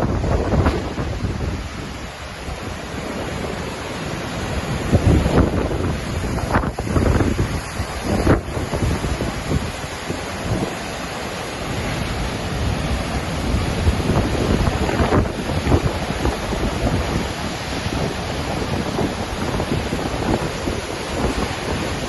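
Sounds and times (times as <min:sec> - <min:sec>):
waterfall rushing: 0:00.0 - 0:22.0
wind on microphone: 0:00.0 - 0:22.0.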